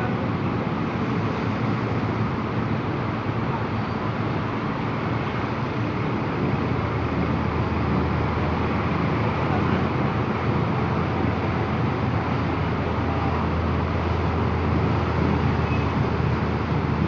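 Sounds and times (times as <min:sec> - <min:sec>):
bus engine hum: 0:00.0 - 0:17.0
motorbike traffic noise: 0:00.0 - 0:17.0.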